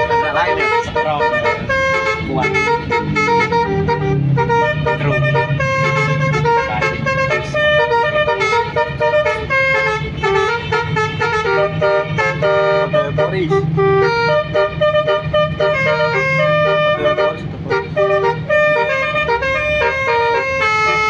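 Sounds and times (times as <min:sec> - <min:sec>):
bus melody horn playing a tune: 0:00.0 - 0:21.0.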